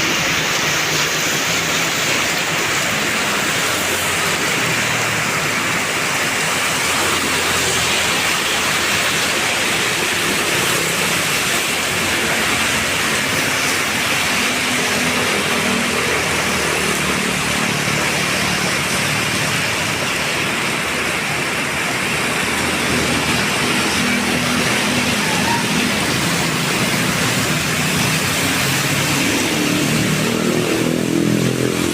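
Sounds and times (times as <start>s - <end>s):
heavy rain: 0.0s - 31.9s.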